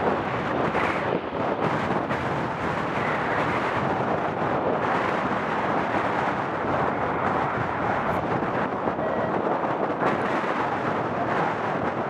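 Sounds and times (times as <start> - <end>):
turboprop plane taking off: 0.0 - 12.0
wind buffeting microphone: 0.0 - 12.0.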